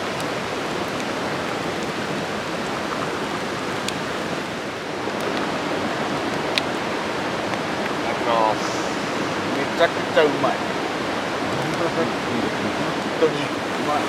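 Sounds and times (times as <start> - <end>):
campfire burning: 0.0 - 14.0
fire crackles: 0.0 - 14.0.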